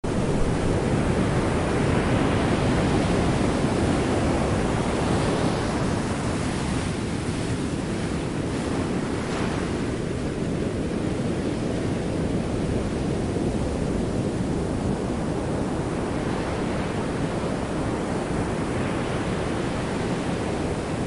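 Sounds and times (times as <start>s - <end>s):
underwater rushing wash of seawater: 0.1s - 21.0s.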